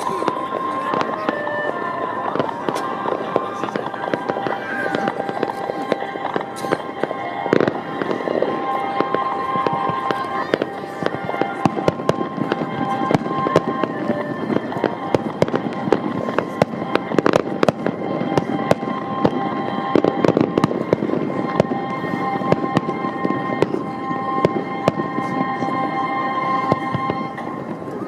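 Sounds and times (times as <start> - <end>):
fireworks bangs and crackles: 0.0 - 28.0
music: 0.0 - 28.0.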